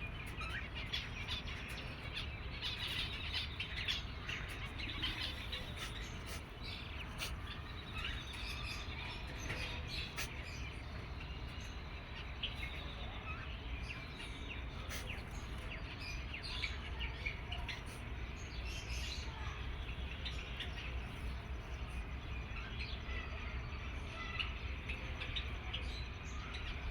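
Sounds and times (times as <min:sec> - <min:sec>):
bird chick chirping: 0:00.0 - 0:26.9
steady low hum: 0:00.0 - 0:26.9.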